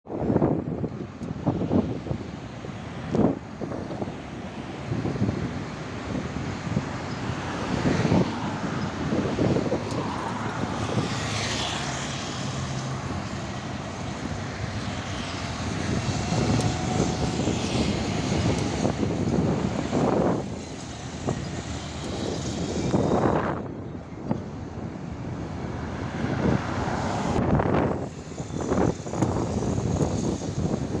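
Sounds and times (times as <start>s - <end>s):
heavy trucks driving past: 3.2s - 31.0s.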